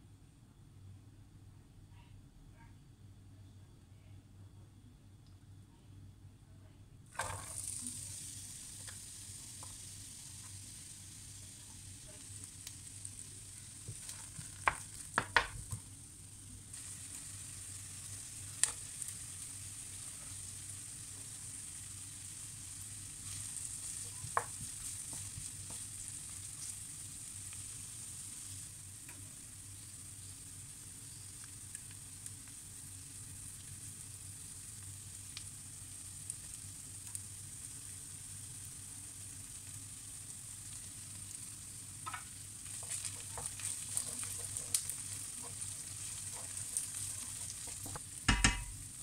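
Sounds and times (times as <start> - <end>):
onion frying in hot oil: 7.1 - 49.0.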